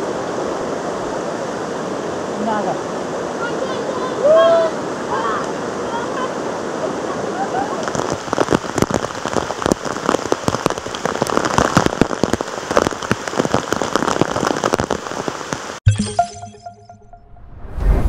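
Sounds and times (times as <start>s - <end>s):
floodwater rushing: 0.0s - 15.8s
rain falling on water: 0.0s - 15.8s.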